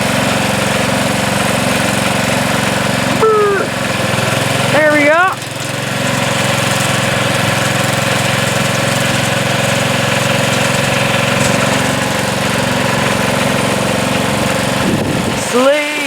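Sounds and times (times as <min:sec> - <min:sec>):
garden tractor engine running: 0:00.0 - 0:16.0.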